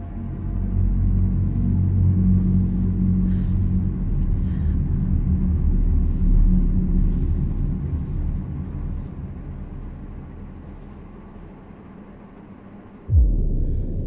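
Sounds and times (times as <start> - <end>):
low heavy rumbling drone: 0.0 - 14.0.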